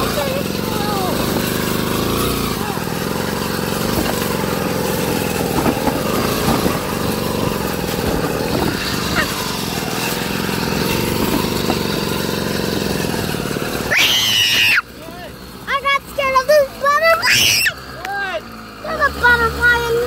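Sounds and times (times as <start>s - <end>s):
off-road vehicle engine running: 0.0s - 20.0s.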